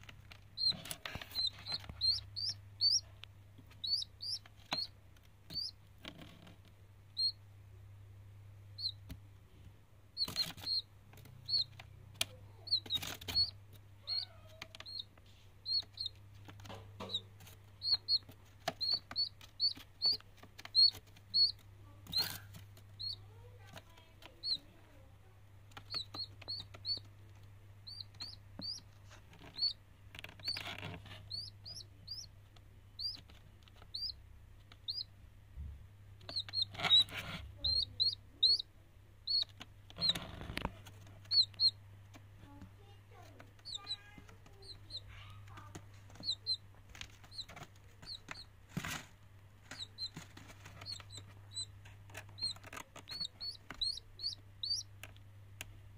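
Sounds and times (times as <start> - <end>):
chick peeping: 0.0 - 7.4, 8.7 - 25.0, 25.7 - 55.8.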